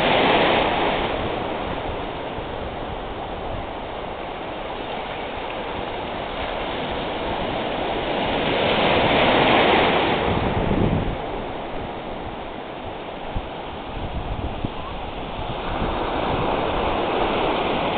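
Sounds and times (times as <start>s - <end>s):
ocean surf washing ashore: 0.0s - 17.9s.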